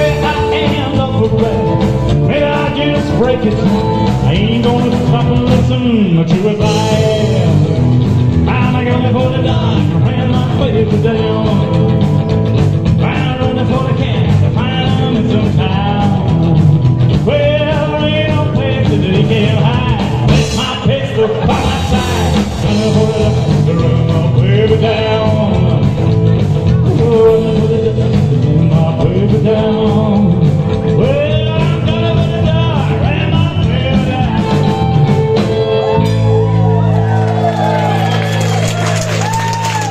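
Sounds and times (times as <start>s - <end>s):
rock and roll band playing: 0.0s - 39.9s.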